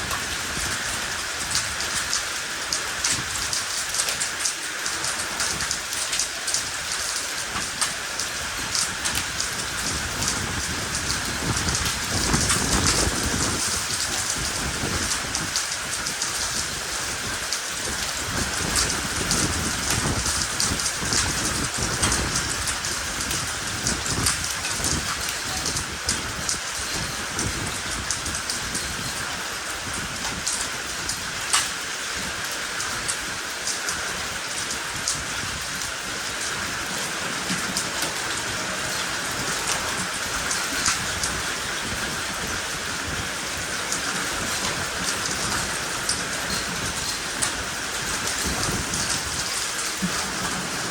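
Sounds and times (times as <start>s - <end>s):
heavy rain and hail pelting: 0.0s - 50.9s.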